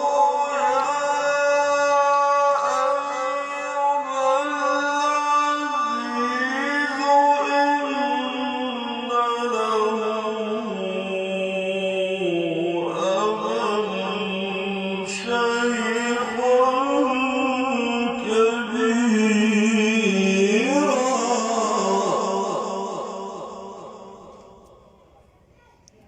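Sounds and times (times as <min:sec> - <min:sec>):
man reciting melodically: 0:00.0 - 0:25.0.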